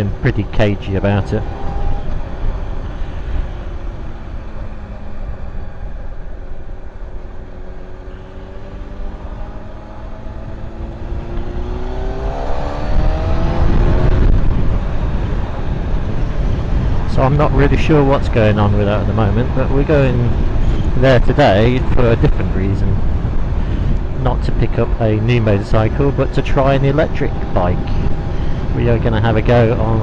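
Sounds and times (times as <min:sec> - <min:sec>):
motorcycle engine: 0:00.0 - 0:30.0
wind rumble on microphone: 0:00.0 - 0:30.0.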